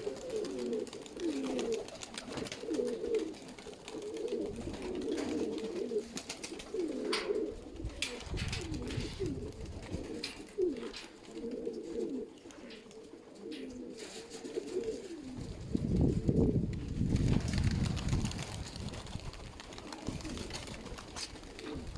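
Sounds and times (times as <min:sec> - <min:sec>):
pigeons cooing: 0:00.0 - 0:17.1, 0:17.7 - 0:21.9.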